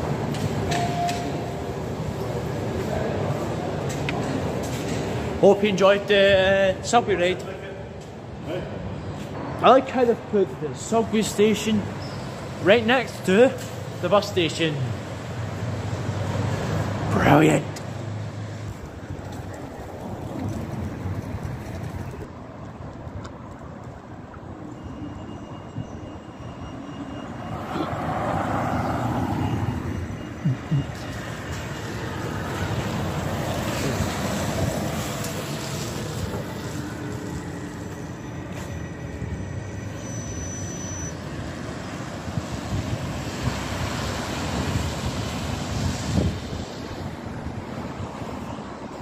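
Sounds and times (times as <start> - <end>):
bus driving past: 0.0 - 49.0
street traffic noise: 0.0 - 49.0.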